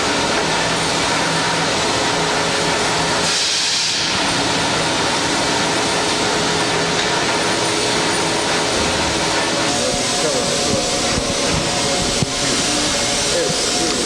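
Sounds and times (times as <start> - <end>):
machine shop machinery din: 0.0 - 14.0.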